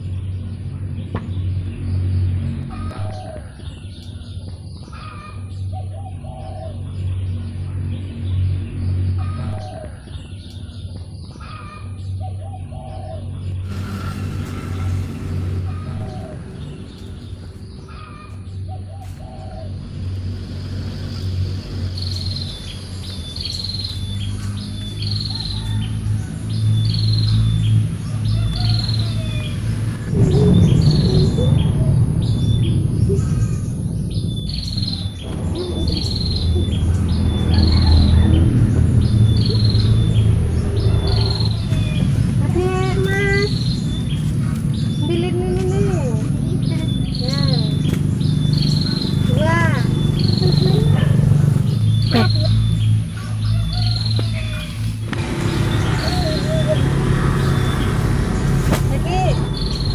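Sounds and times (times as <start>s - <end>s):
bird chirping: 0.0s - 59.9s
low background rumble: 0.0s - 59.9s.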